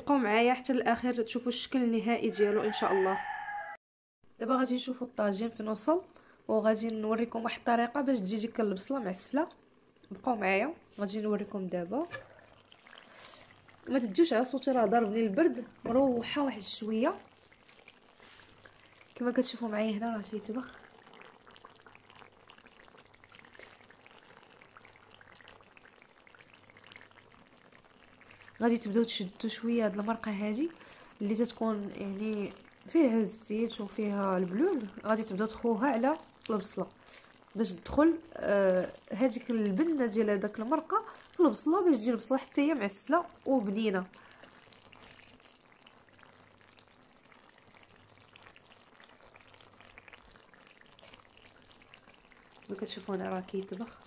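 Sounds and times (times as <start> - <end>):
sauce bubbling and sizzling: 0.0 - 3.8, 4.7 - 54.0.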